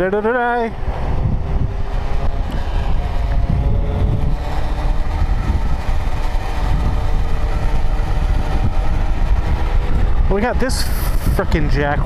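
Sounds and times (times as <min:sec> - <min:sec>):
motorcycle engine running: 0:00.0 - 0:12.0
wind and road noise rumble: 0:00.0 - 0:12.0.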